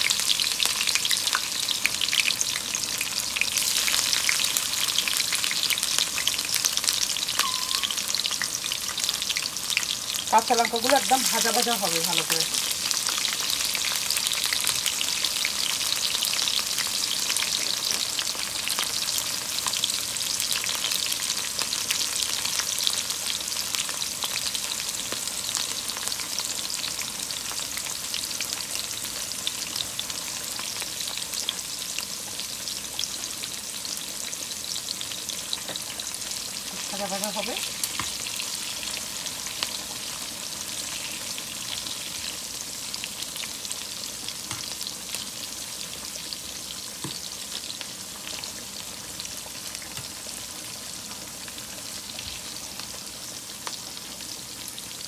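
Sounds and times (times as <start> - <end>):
chillies frying in oil: 0.0 - 55.0.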